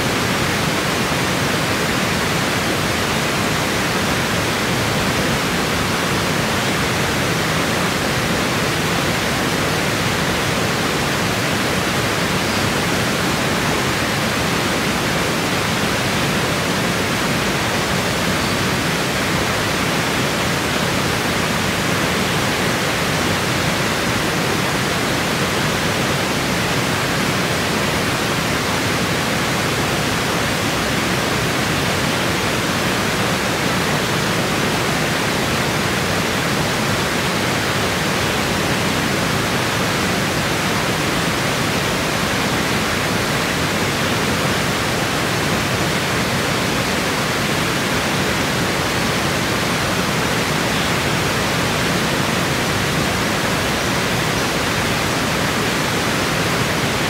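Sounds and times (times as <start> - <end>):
water rushing over weir: 0.0 - 57.0.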